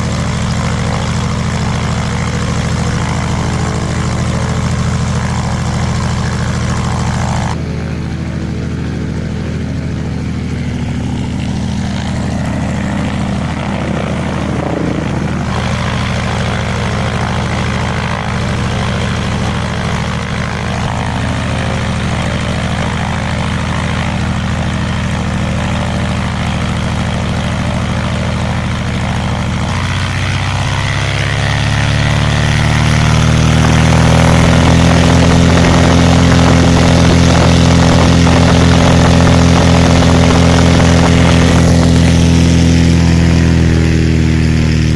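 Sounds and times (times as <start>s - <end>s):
aero engine running: 0.0s - 44.9s.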